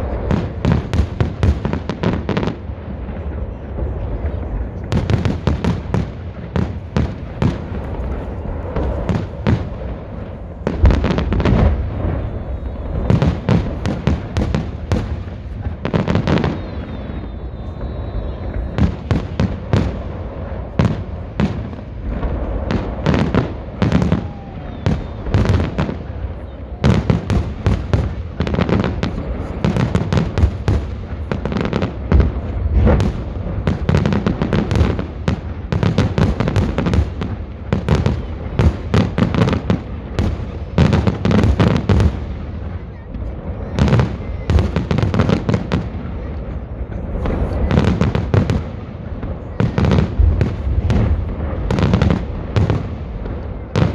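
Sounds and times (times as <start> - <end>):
fireworks bursting and crackling: 0.0 - 53.9.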